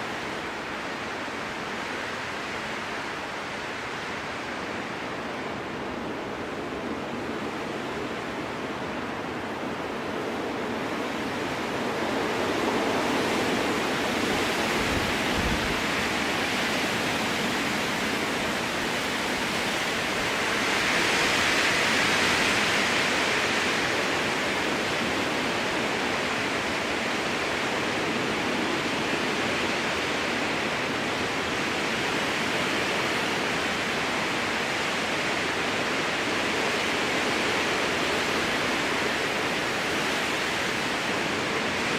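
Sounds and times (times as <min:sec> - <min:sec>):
strong wind through trees: 0:00.0 - 0:41.9.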